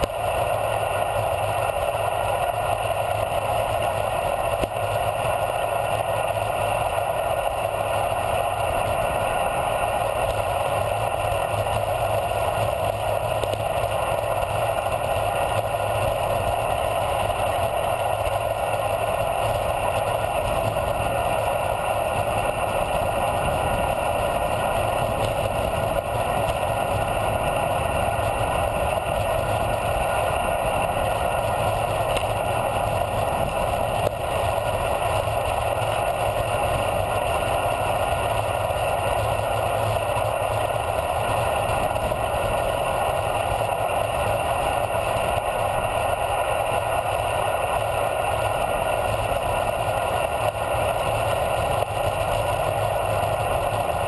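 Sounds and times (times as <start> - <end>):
bicycle tyre noise: 0.0 - 54.0.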